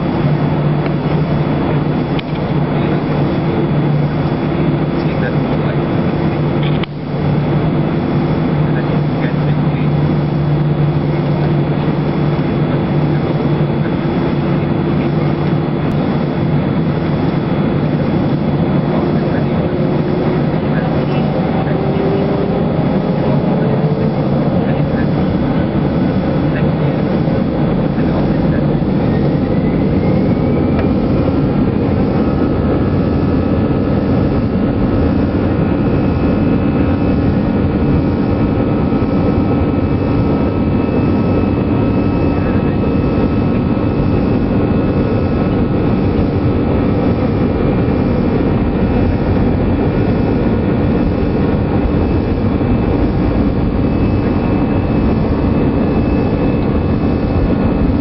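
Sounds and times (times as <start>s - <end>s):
jet engines at takeoff power: 0.0s - 58.0s.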